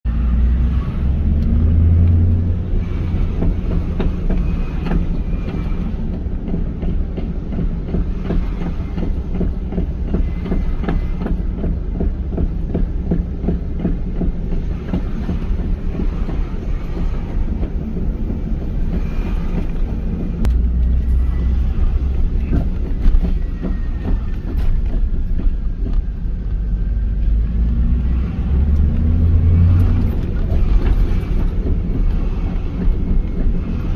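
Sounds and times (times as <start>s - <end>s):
steady low engine rumble: 0.0s - 33.9s.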